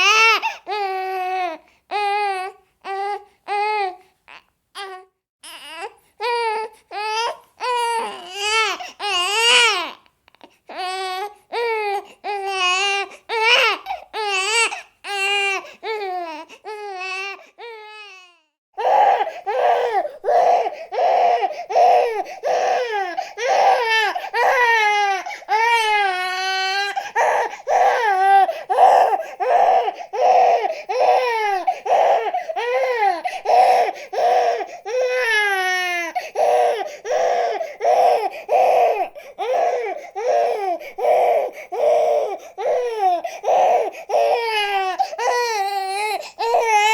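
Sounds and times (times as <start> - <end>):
baby crying: 0.0 - 46.9.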